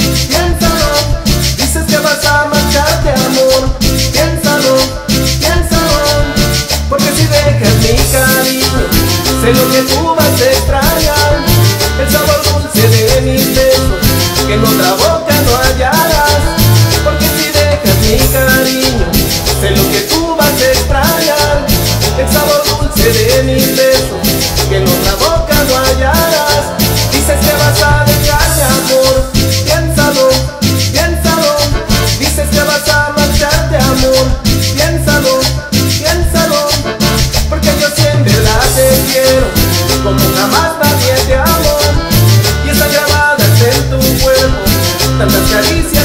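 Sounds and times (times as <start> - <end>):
dance music with heavy bass: 0.0 - 46.0.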